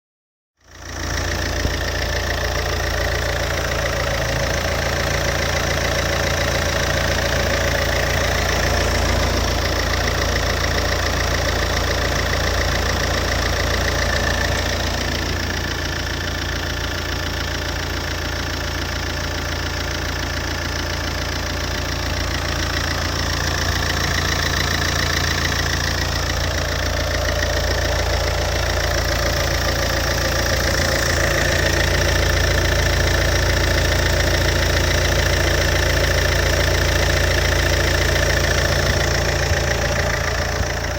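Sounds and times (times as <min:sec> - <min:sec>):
diesel engine idling: 0:00.6 - 0:40.9.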